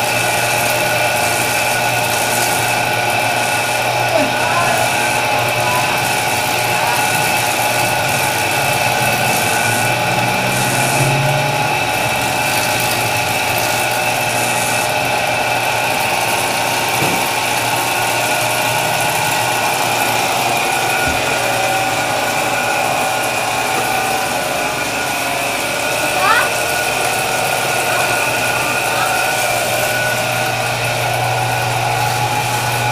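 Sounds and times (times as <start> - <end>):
dough roller motor humming: 0.0 - 32.9.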